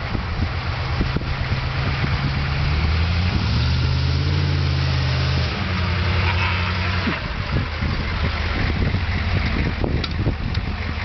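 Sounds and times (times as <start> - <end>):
diesel engine low drone: 0.0 - 11.0.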